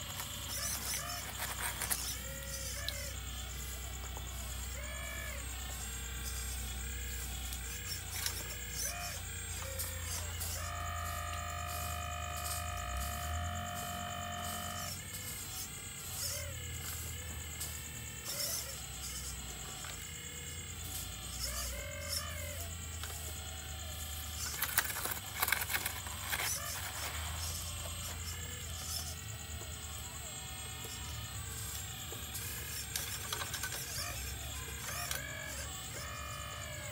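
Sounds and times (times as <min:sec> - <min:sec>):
hydraulic pump whining: 0:00.0 - 0:36.9.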